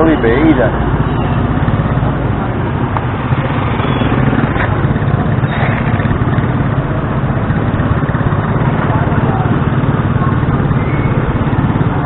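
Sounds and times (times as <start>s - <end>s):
motor scooter engine running: 0.0s - 12.0s.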